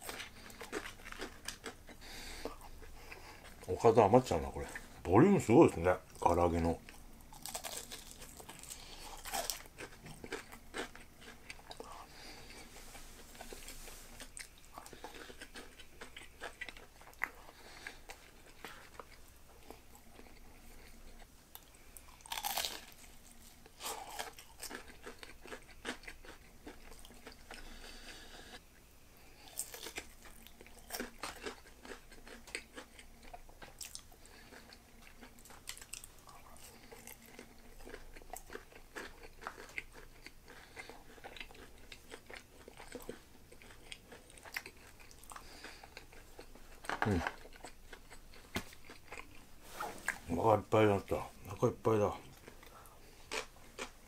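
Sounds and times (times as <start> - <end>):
crunchy food chewing: 0.0 - 5.0, 5.9 - 28.6, 29.2 - 50.3, 52.3 - 54.0.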